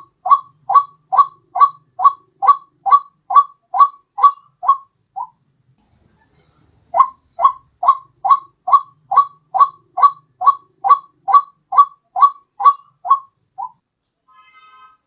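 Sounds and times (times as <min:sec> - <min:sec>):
waterhen calling: 0:00.0 - 0:05.4, 0:06.9 - 0:13.8.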